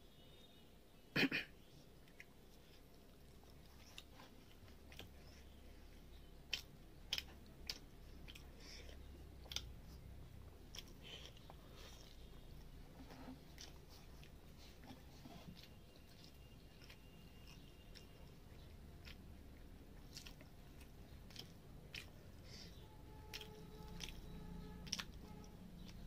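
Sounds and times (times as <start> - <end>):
chewing and mouth sounds: 2.0 - 26.0.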